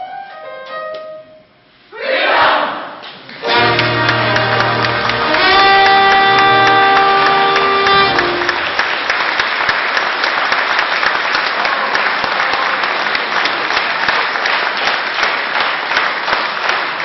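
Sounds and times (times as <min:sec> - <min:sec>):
crowd applauding: 0:03.3 - 0:17.0.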